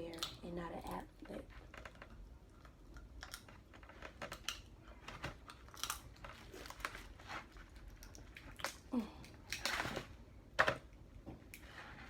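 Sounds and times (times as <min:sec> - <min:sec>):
food crinkling and clicking: 0:00.0 - 0:11.7.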